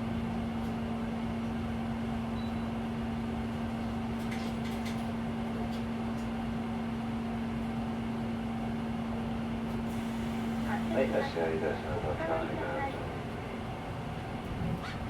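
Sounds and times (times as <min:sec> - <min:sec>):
bus cabin mechanical drone: 0:00.0 - 0:15.0.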